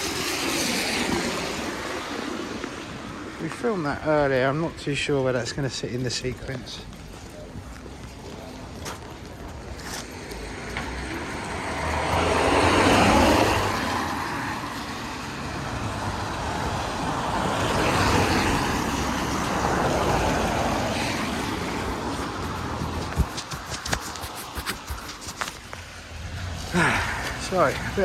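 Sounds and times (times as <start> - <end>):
vehicles passing on wet street: 0.0 - 28.0.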